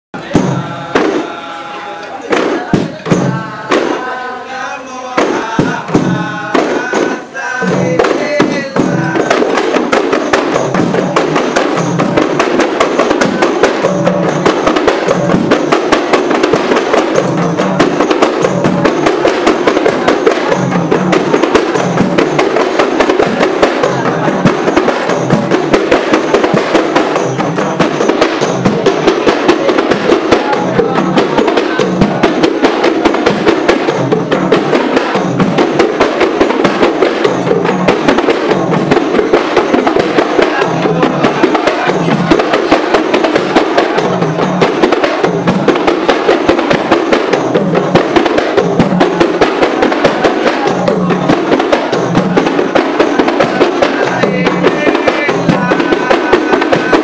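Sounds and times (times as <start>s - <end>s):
percussion music: 0.1s - 57.0s
rapid drum strokes: 0.2s - 57.0s.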